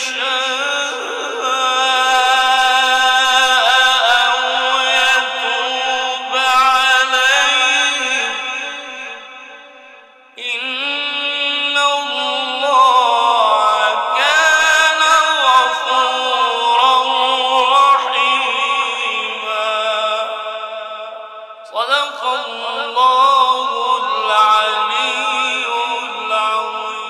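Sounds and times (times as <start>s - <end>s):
man reciting melodically: 0.0s - 9.5s, 10.4s - 27.0s.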